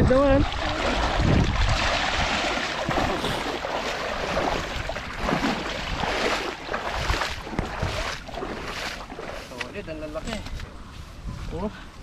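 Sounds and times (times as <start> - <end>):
shallow river water splashing: 0.0 - 10.2.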